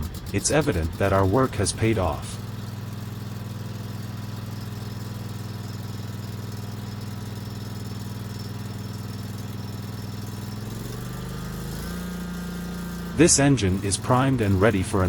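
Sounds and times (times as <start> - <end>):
engine running with steady hum: 0.0 - 15.0.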